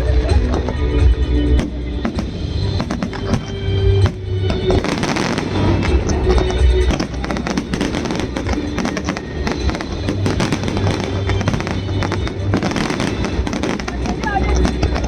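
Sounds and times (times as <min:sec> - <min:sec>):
fireworks bangs and crackles: 0:00.0 - 0:15.0
music playing: 0:00.0 - 0:15.0.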